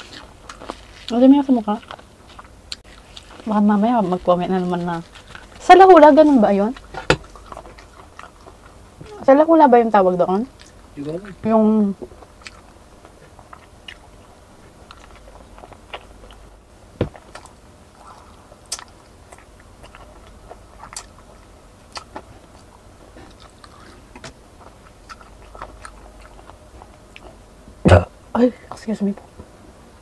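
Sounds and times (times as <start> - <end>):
chewing crispy fried chicken: 0.0 - 9.2, 9.9 - 16.5, 17.2 - 27.4.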